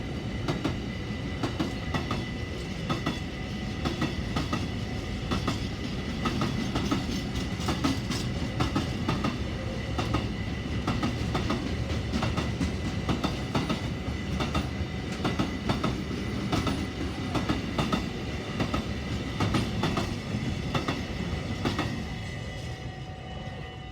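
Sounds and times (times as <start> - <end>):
train wagons rumbling: 0.0 - 23.0.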